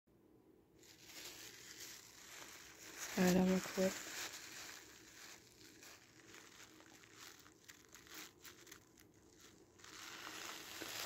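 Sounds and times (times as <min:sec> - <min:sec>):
gauze pad rustling and crinkling: 0:00.8 - 0:11.0.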